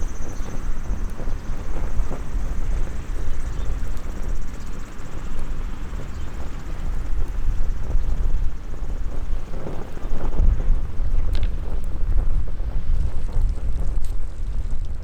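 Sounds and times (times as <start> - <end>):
small wood fire crackling: 0.0 - 15.0
wind buffeting microphone: 0.0 - 15.0.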